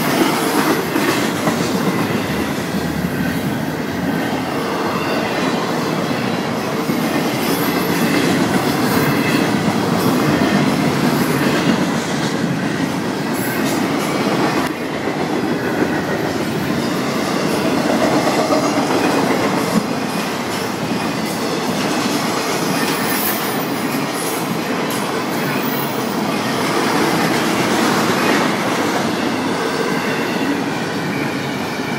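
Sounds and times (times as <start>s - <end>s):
steel wheels clattering on rails: 0.0s - 3.5s, 4.6s - 31.9s
freight train rumbling past: 0.0s - 31.9s.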